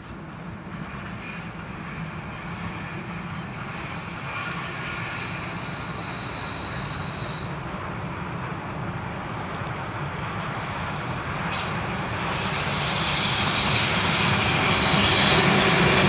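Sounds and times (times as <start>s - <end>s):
train drone: 0.0s - 16.0s.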